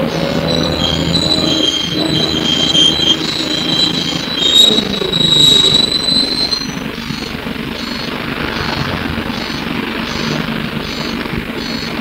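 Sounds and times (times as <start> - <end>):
bus engine and road noise: 0.0 - 4.6, 5.2 - 12.0
high squeal: 0.0 - 12.0.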